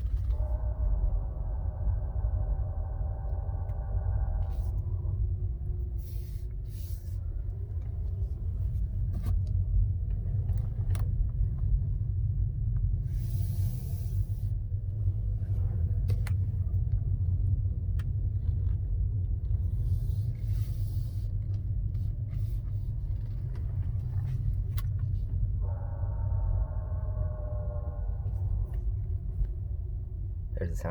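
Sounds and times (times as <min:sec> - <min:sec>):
car rolling rumble: 0:00.0 - 0:30.9.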